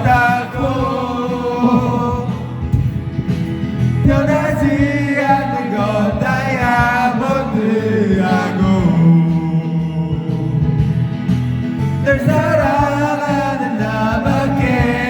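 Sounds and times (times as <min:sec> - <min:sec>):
karaoke backing track: 0:00.0 - 0:15.0.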